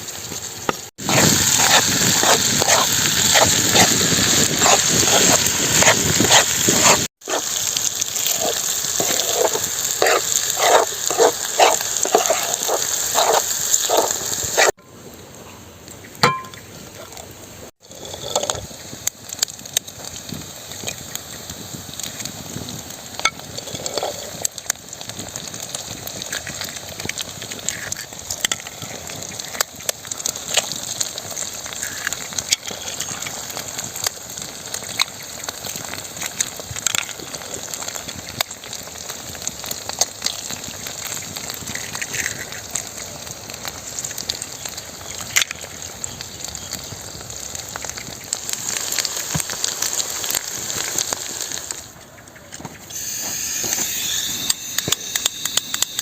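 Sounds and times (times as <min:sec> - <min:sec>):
food sizzling in a pan: 0:00.0 - 0:14.8, 0:16.2 - 0:52.0, 0:52.9 - 0:56.0.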